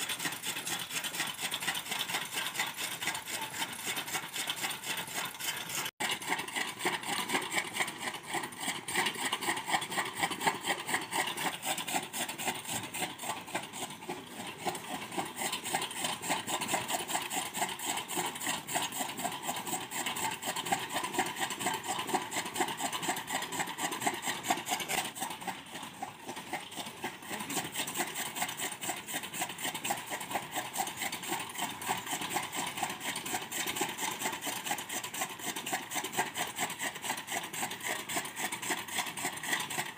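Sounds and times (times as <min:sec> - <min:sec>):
chaff cutter chopping fodder: 0:00.0 - 0:39.9.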